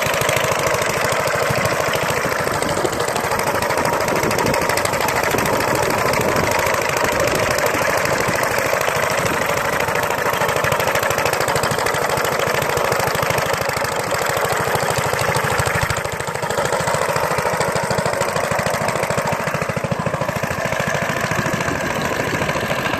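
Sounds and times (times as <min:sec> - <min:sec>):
small engine running: 0:00.0 - 0:22.9.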